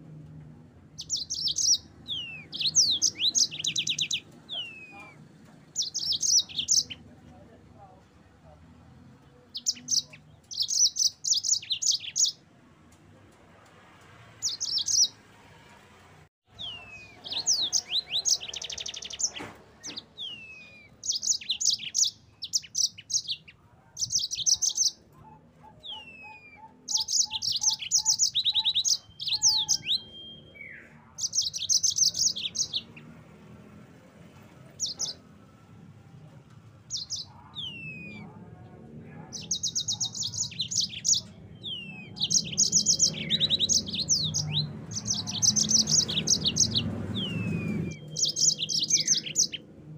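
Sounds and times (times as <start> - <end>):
canary singing trills: 0.8 - 7.2, 9.2 - 12.5, 14.4 - 15.2, 16.5 - 33.6, 34.4 - 35.8, 36.8 - 49.9.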